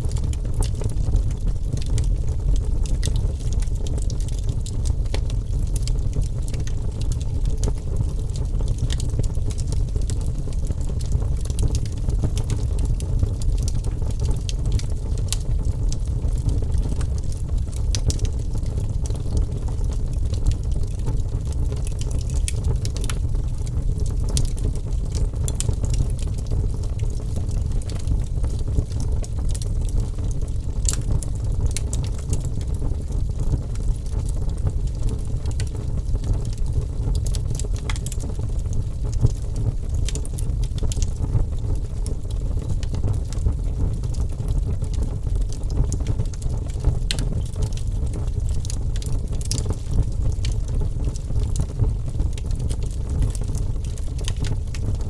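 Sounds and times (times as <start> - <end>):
burning logs crackling and popping: 0.0 - 55.0
rumble of flames: 0.0 - 55.0.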